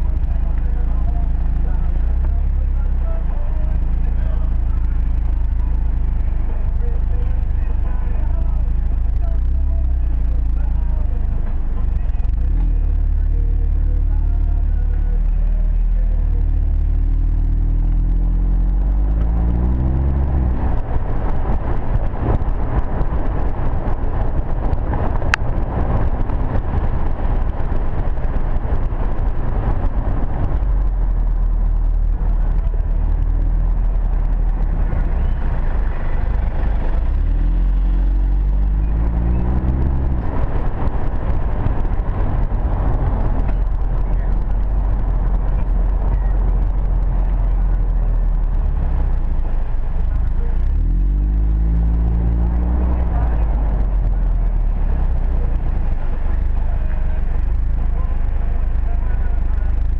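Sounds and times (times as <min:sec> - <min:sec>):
car engine and exhaust accelerating: 0:00.0 - 0:59.9
road and wind noise: 0:00.0 - 0:59.9.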